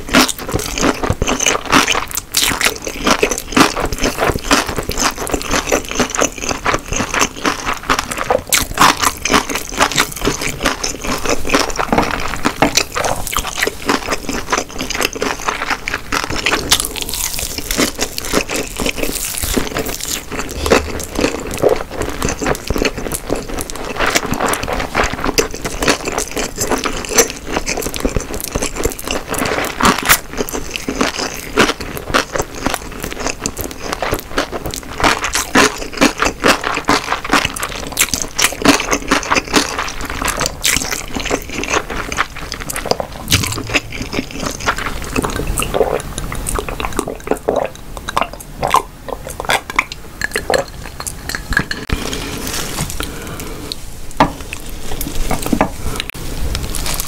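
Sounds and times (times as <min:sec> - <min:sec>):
wet sticky chewing: 0:00.0 - 0:53.8.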